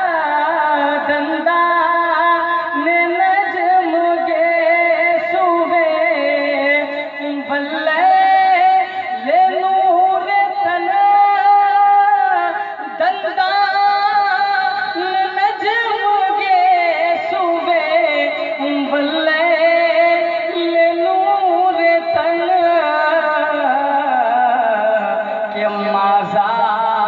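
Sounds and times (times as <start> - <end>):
man singing devotional song: 0.0 - 27.0.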